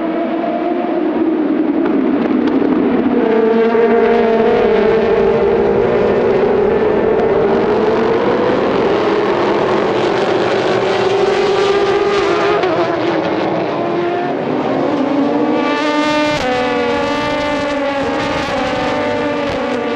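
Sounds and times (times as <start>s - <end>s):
race car engines at high revs: 0.0s - 19.9s.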